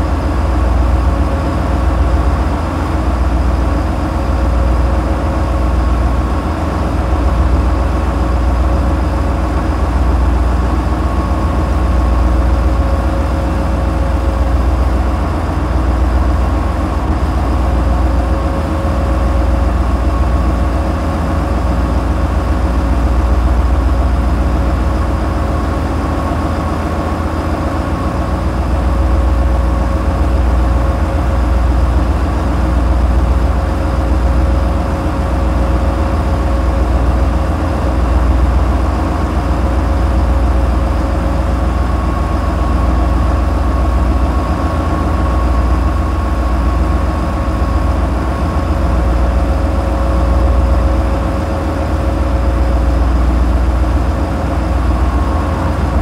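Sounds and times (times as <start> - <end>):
boat engine drone: 0.0 - 56.0.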